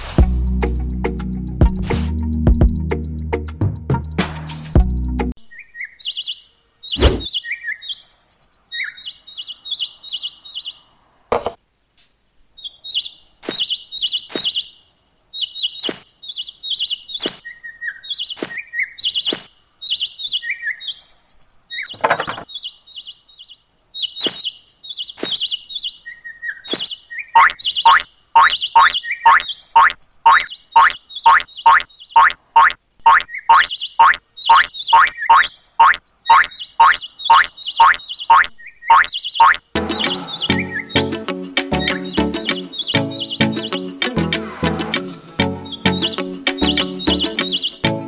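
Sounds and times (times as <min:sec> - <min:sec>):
songbirds chirping: 0:05.0 - 0:48.0.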